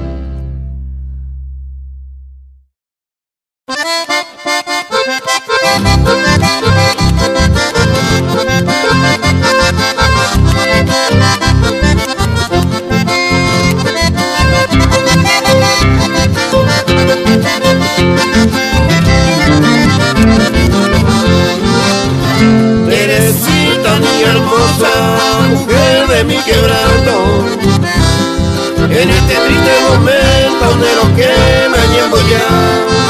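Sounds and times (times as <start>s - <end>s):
accordion tune: 0.0s - 1.3s, 3.7s - 33.0s
pulsing bass beat: 5.8s - 33.0s.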